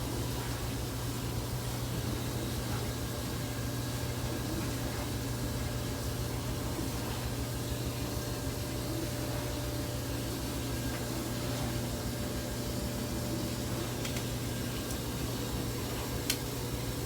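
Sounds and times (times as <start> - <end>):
clothes dryer humming: 0.0 - 17.0.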